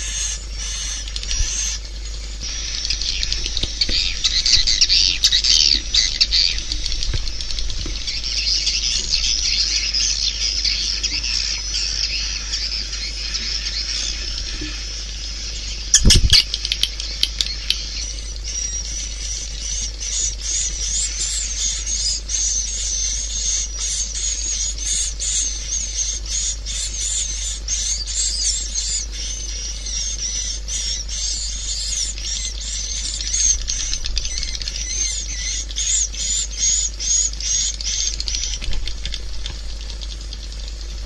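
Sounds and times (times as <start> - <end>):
steady low hum: 0.0 - 41.0
swiftlets twittering chirps: 0.0 - 41.0.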